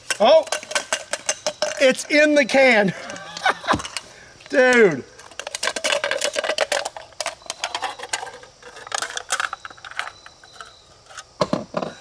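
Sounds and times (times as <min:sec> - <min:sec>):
soda cans clinking and rattling: 0:00.0 - 0:12.0.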